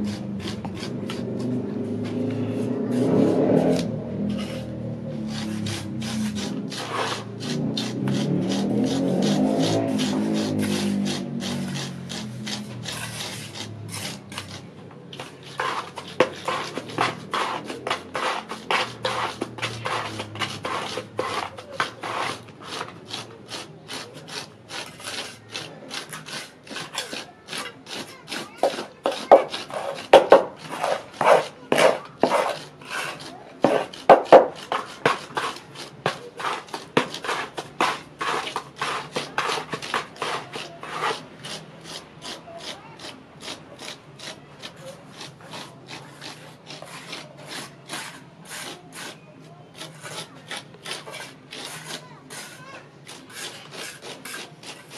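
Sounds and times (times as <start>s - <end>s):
scraping on wet cement: 0.0s - 54.9s.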